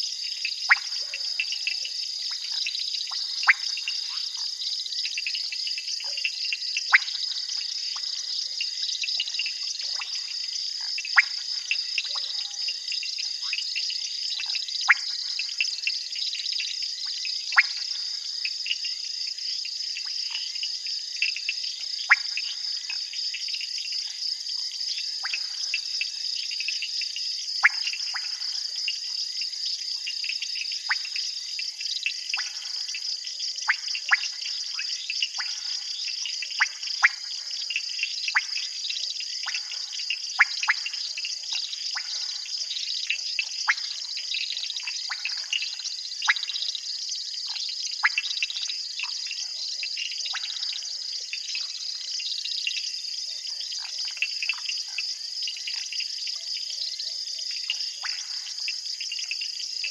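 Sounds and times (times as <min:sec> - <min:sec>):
frog calls: 0:00.0 - 0:18.9, 0:25.0 - 0:27.0, 0:27.6 - 0:29.1, 0:30.0 - 0:59.9.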